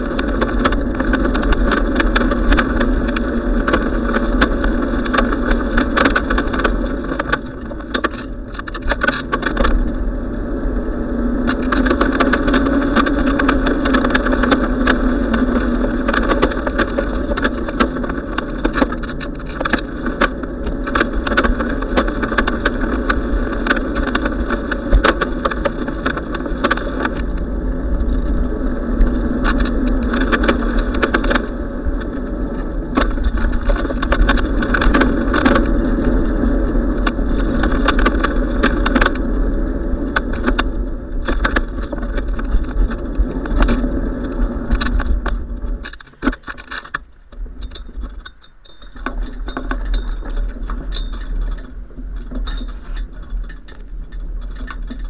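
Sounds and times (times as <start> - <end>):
bicycle clicks and rattles: 0.0 - 55.0
bicycle road noise rumble: 0.0 - 55.0
wind rushing on microphone: 0.0 - 55.0.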